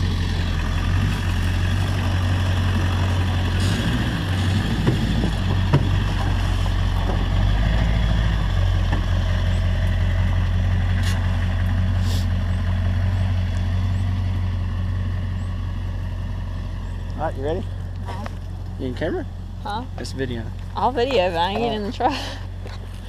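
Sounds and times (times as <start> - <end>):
truck engine running at low revs: 0.0 - 23.0.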